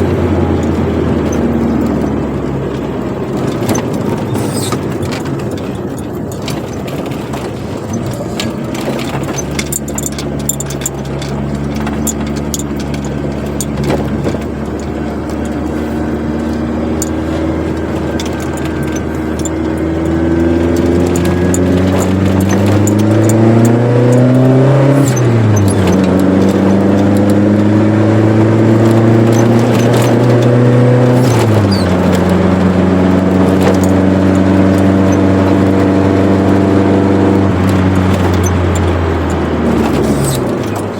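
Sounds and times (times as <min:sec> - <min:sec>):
car engine accelerating: 0:00.0 - 0:40.9
light clicks and rattles: 0:00.0 - 0:40.9.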